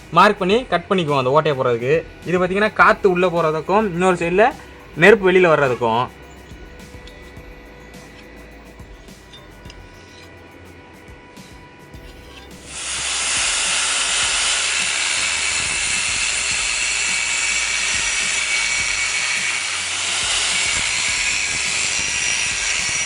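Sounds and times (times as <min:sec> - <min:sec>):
gas cutting torch hissing: 0:00.0 - 0:23.0.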